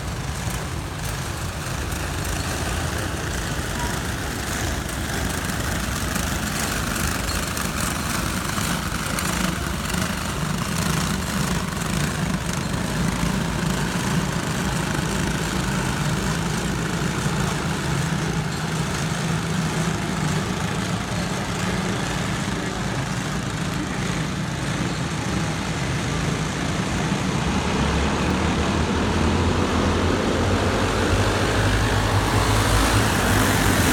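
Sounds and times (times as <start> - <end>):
kart engines humming: 0.0 - 33.9.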